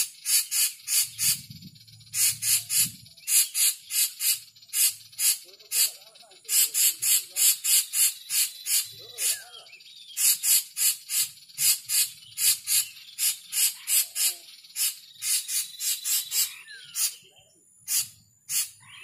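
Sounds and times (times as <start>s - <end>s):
faint bird whistles: 0.0s - 17.3s
bird chatter call: 0.0s - 19.0s.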